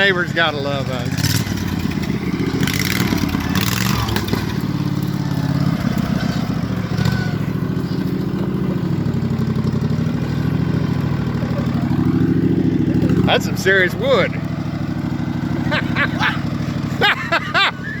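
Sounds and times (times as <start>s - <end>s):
lawnmower engine revving hard: 0.0s - 18.0s.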